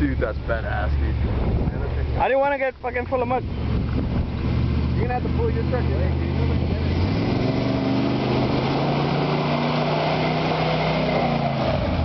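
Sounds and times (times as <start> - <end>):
truck engine pulling: 0.0 - 12.0.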